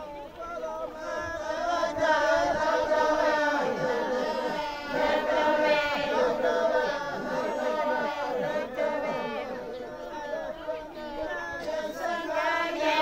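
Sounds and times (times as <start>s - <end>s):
congregation singing in unison: 0.0s - 13.0s.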